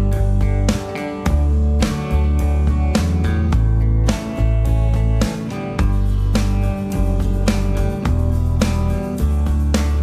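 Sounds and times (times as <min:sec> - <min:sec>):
plucked and strummed guitar: 0:00.0 - 0:10.0
steady bass: 0:00.0 - 0:10.0.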